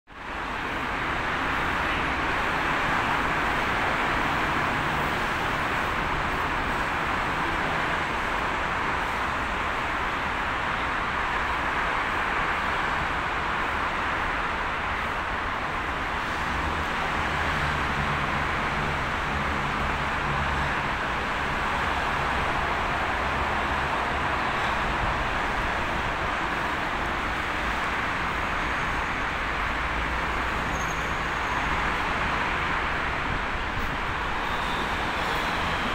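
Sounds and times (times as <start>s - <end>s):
road traffic roar: 0.1s - 35.9s.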